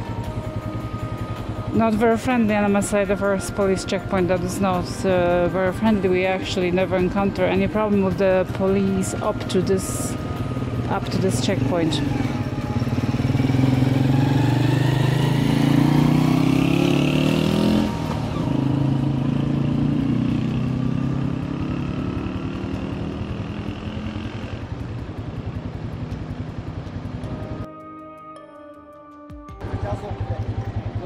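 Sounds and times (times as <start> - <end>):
motorcycle engine accelerating: 0.0 - 27.7, 29.6 - 31.0.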